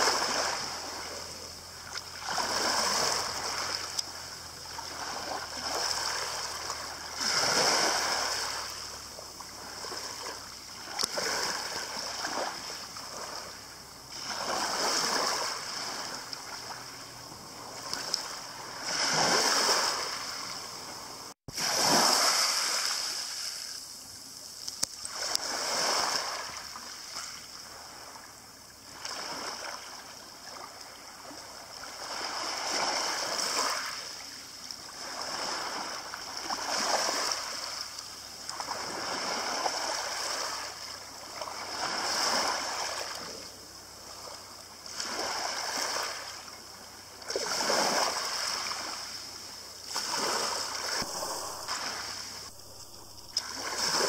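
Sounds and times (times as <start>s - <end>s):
waves lapping on pebbles: 0.0s - 54.0s.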